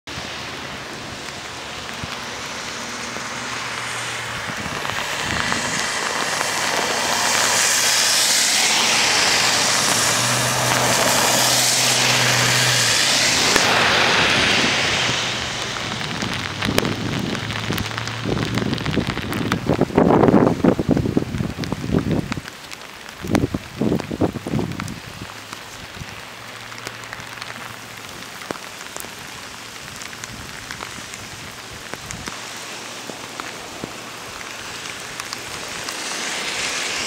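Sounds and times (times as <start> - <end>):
steady rain: 0.0 - 37.0
tyres hissing through water: 0.1 - 19.4, 25.0 - 37.0
low engine hum: 0.1 - 37.0.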